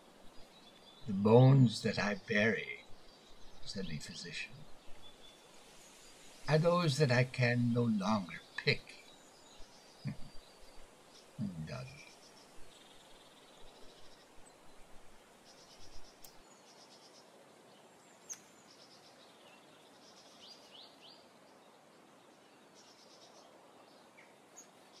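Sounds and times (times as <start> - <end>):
bird chirps and trills: 0.0 - 25.0
soft steady hiss: 0.0 - 25.0.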